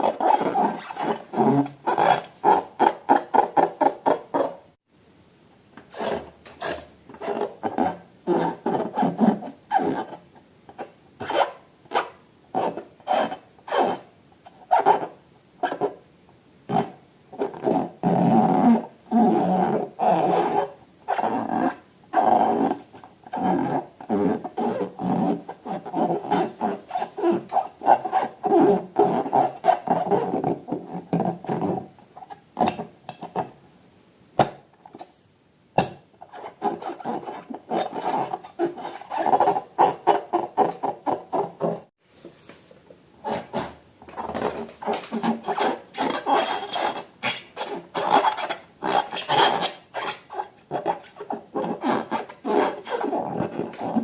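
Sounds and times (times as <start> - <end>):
squeaky balloon rubbing: 0.0 - 4.6, 5.9 - 10.2, 10.8 - 14.0, 16.7 - 31.9, 36.2 - 41.9, 43.2 - 54.0.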